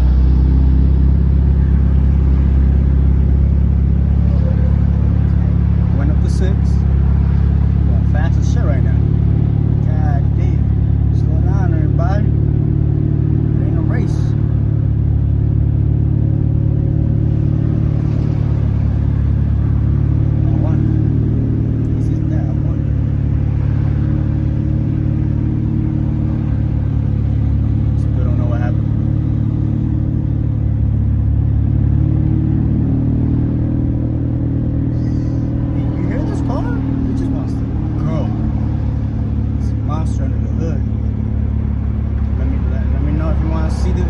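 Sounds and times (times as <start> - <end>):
car engine droning at low revs: 0.0 - 44.0.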